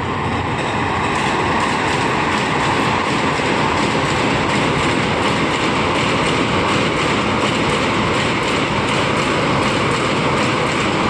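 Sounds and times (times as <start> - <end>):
train passing at high speed: 0.0 - 11.0
rapid wheel clatter: 1.0 - 11.0.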